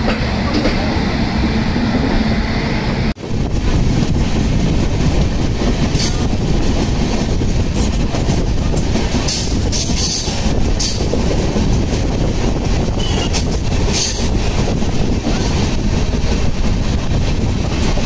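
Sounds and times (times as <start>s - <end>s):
passing train coaches: 0.0s - 18.0s
train wheels on rails: 0.0s - 18.0s.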